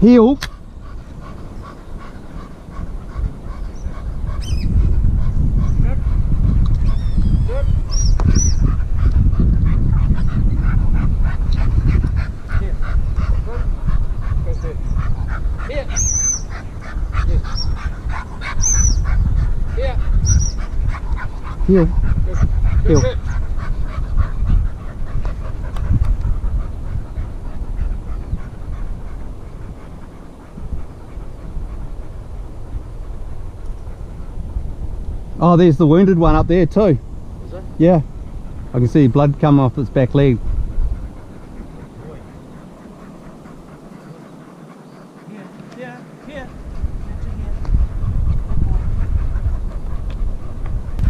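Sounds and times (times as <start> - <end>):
dogs panting rapidly: 0.0 - 51.0
wind rumble on microphone: 0.0 - 51.0.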